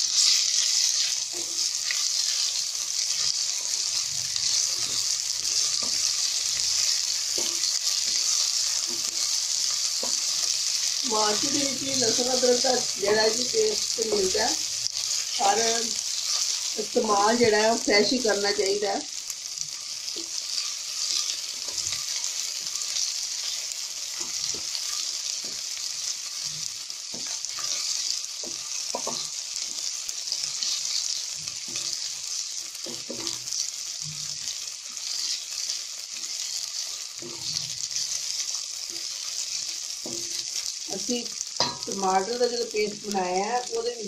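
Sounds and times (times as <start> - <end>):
onions sizzling in oil: 0.0 - 44.0.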